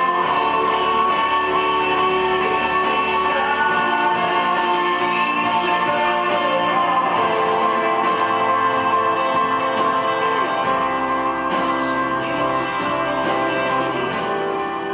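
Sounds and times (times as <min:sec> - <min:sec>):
background music with guitar: 0:00.0 - 0:14.9.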